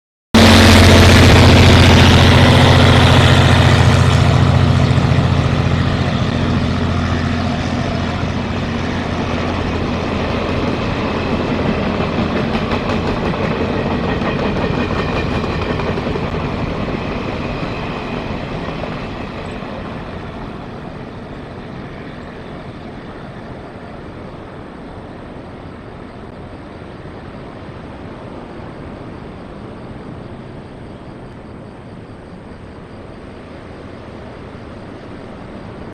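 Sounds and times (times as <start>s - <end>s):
diesel locomotive engine hum: 0.4s - 35.9s.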